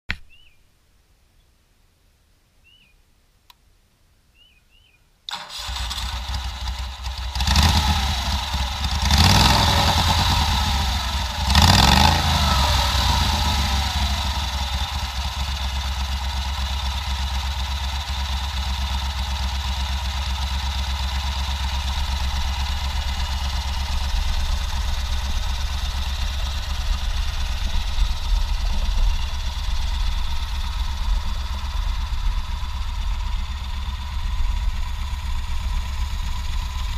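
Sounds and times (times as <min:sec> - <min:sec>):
motorcycle engine starting and revving: 0:05.3 - 0:36.9
motorcycle engine idling: 0:05.6 - 0:36.9.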